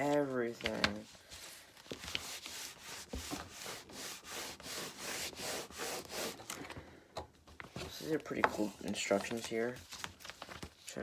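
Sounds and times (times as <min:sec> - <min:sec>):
paper rubbing and rustling: 0:00.0 - 0:06.4, 0:07.8 - 0:11.0.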